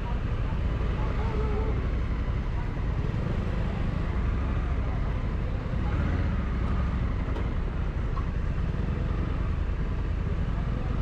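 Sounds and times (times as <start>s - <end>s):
motor vehicle engine rumble: 0.0s - 11.0s.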